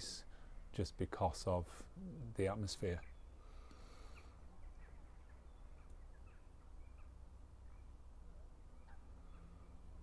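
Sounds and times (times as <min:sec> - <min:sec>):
faint short bird calls: 0:01.7 - 0:10.0.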